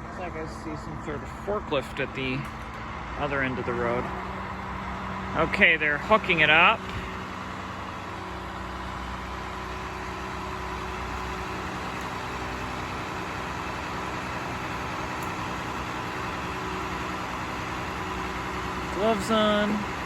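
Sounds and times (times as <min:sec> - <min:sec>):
diesel excavator engine idling: 0:00.0 - 0:20.0.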